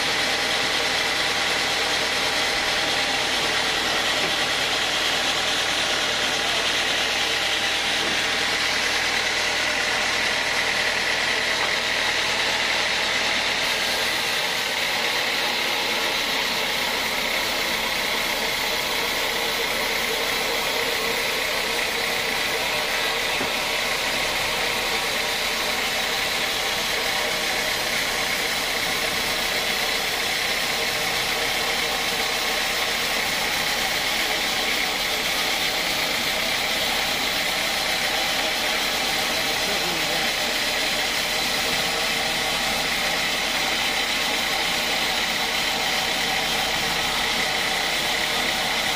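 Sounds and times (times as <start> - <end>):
band saw cutting log: 0.0 - 48.9.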